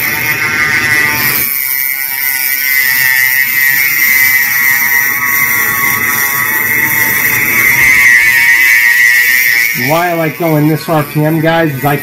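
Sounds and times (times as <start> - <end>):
rotary tool whine grinding metal: 0.0 - 12.0.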